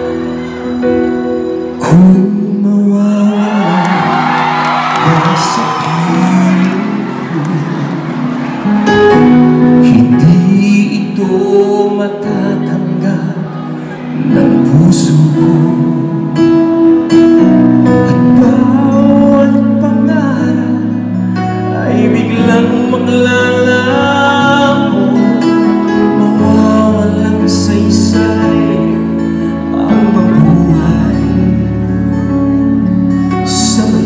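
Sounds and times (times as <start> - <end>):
man singing into a microphone: 0.0 - 32.4, 33.3 - 34.0.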